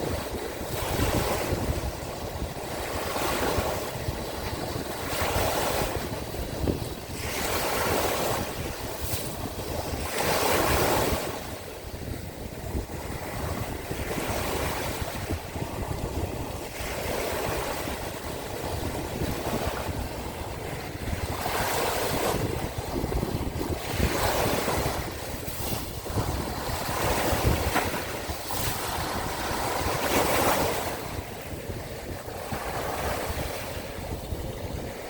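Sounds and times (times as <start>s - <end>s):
sea waves breaking: 0.0s - 35.0s
wind on microphone: 0.0s - 35.0s.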